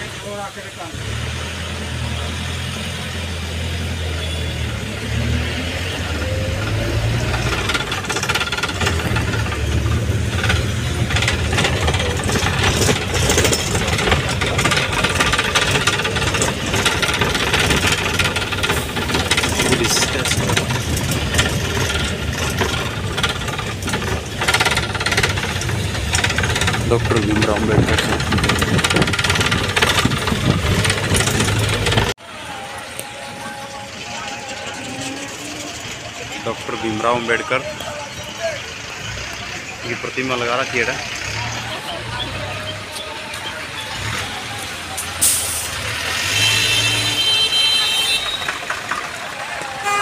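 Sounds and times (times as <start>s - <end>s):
vehicle engine running: 0.0s - 50.0s
vehicle rattling: 0.0s - 50.0s.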